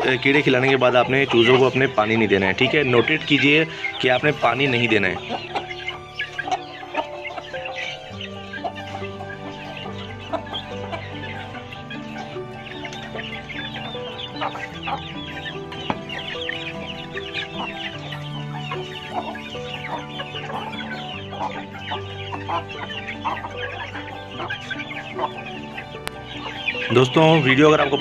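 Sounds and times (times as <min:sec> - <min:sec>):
chicks cheeping: 0:00.0 - 0:28.0
hens clucking: 0:00.0 - 0:28.0.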